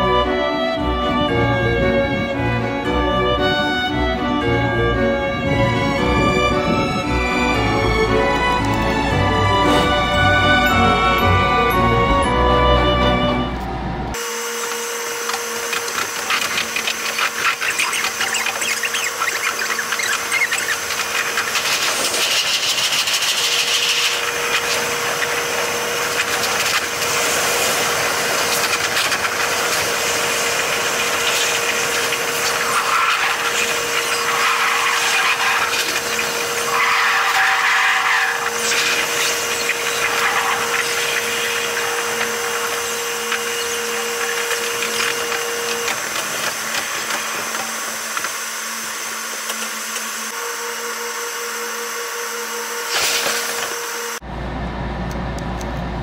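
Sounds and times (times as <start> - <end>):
sped-up wheel and rail noise: 0.0 - 56.0
steady whine: 0.0 - 56.0.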